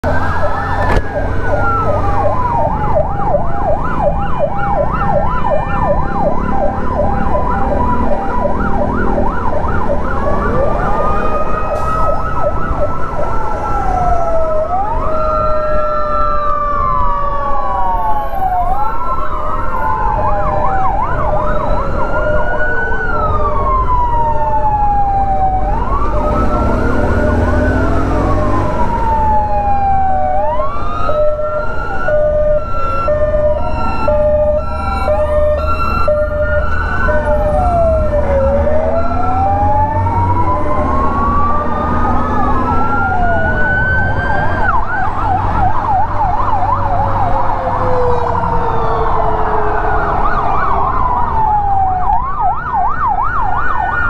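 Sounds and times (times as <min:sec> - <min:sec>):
emergency sirens: 0:00.0 - 0:54.0.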